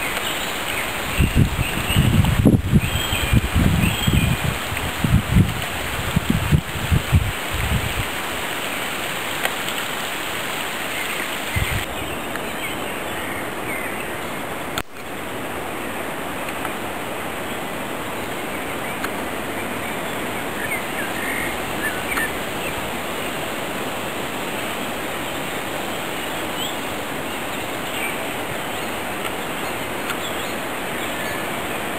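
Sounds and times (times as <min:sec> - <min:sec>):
stream rushing: 0:00.0 - 0:31.9.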